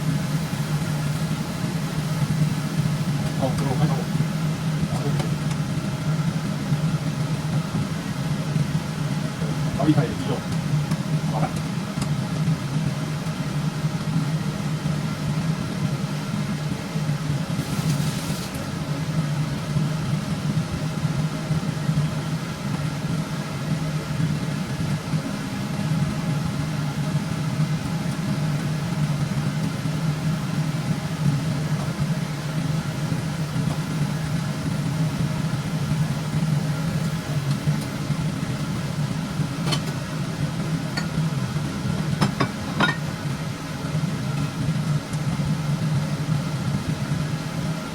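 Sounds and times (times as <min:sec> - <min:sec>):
range hood fan humming: 0:00.0 - 0:47.9.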